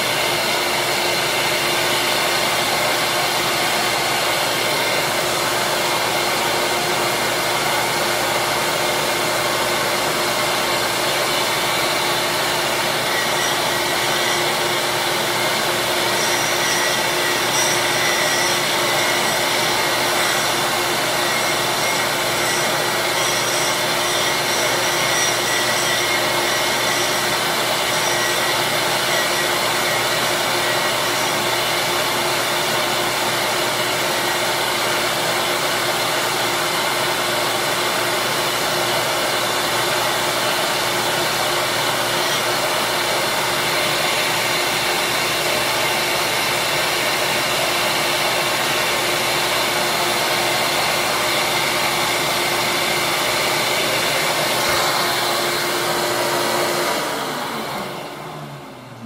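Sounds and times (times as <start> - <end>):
electric disc sander running: 0.0 - 59.0.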